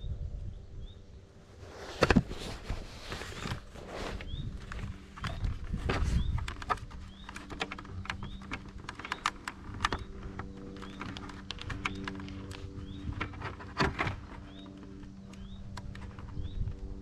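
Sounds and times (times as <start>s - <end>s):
electric motor hum: 1.2s - 17.0s.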